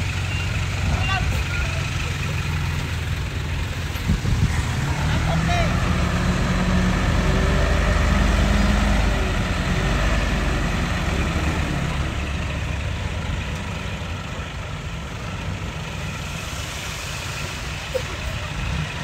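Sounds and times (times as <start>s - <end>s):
dump truck engine running: 0.0s - 19.0s.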